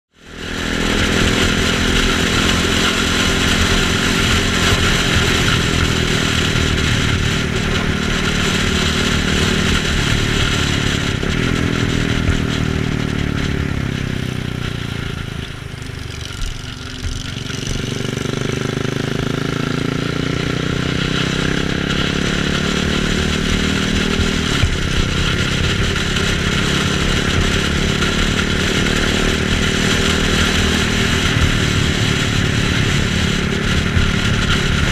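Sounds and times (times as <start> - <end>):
motorcycle engine running: 0.1 - 34.9
wind and road noise: 0.1 - 34.9.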